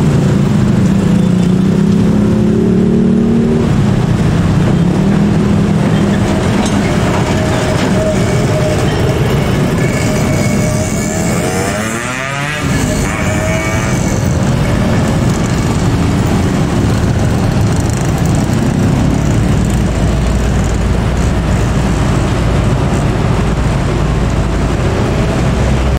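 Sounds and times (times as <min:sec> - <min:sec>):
motorcycle and scooter traffic: 0:00.0 - 0:25.9.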